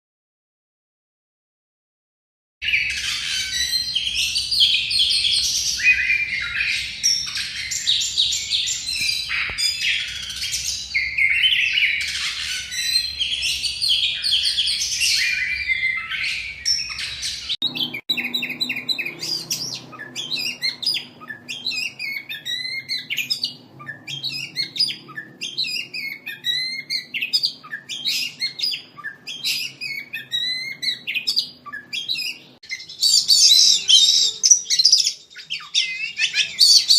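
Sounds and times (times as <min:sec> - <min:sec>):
bird singing whistles and chatter: 0:02.6 - 0:36.9.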